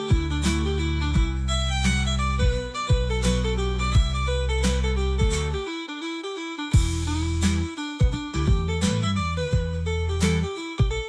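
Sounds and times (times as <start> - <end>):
plucked guitar music with bass: 0.0 - 11.0.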